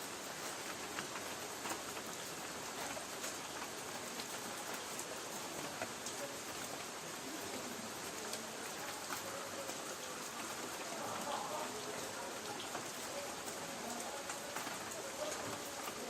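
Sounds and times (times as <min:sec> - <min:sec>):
rain hissing on a tin roof: 0:00.0 - 0:16.0
raindrop ticks: 0:00.1 - 0:16.0.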